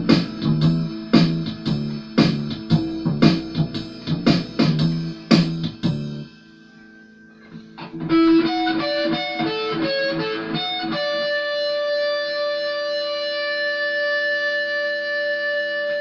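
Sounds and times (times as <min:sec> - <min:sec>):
electric guitar single picked notes: 0:00.0 - 0:16.0
electric guitar strummed chords: 0:00.0 - 0:16.0.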